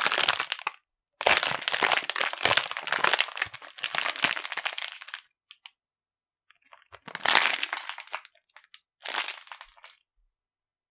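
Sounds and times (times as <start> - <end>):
crackly crunching and crinkling: 0.0 - 5.8, 6.5 - 10.0.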